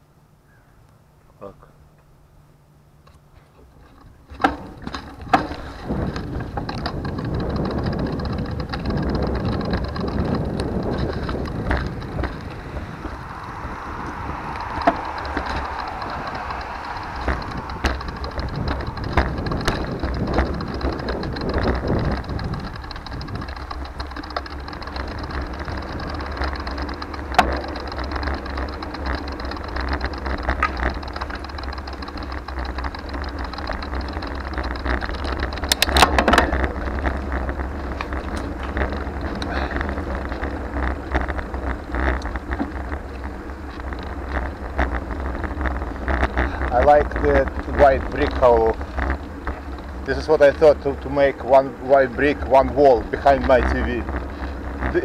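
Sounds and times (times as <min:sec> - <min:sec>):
bicycle clicks and knocks: 0:03.1 - 0:55.0
wind rumbling on microphone: 0:03.6 - 0:55.0
road noise hiss: 0:10.4 - 0:55.0.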